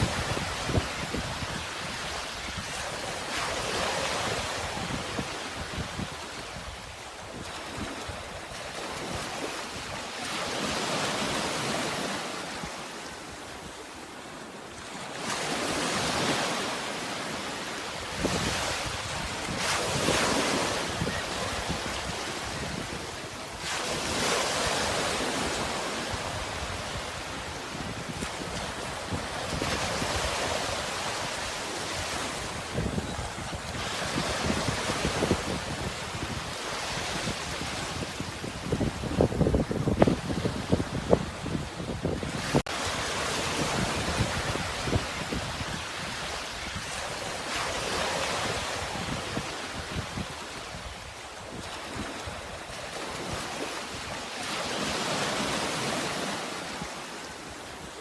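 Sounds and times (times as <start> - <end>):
sea waves breaking ashore: 0.0 - 58.0.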